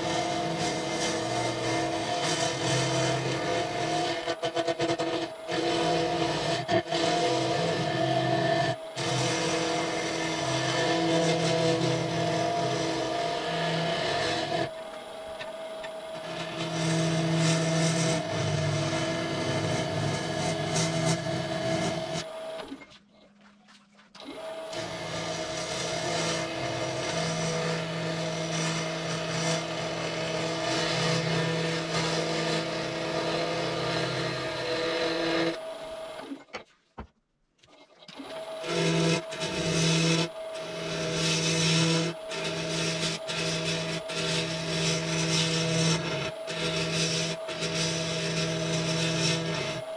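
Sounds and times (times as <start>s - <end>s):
wood lathe running: 0.0s - 22.8s, 24.2s - 36.4s, 38.0s - 49.9s.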